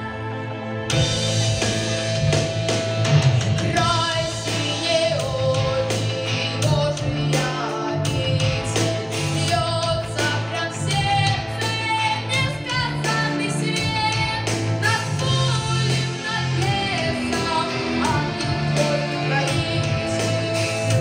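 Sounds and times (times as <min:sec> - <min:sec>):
backing track with bass and beat: 0:00.9 - 0:21.0.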